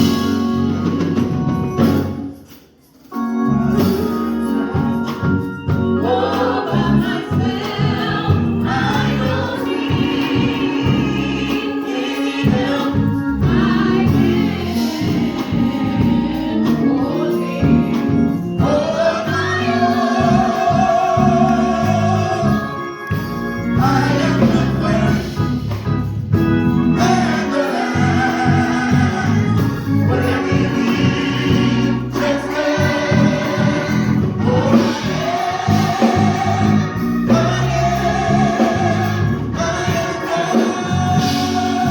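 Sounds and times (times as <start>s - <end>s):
gospel choir singing: 0.0s - 41.9s
instrumental accompaniment: 0.0s - 41.9s.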